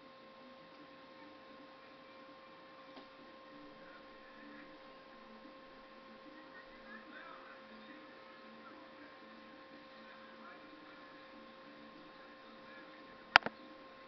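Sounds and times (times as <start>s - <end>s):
electrical hum: 0.0s - 14.0s
faint indistinct voices: 0.0s - 14.0s.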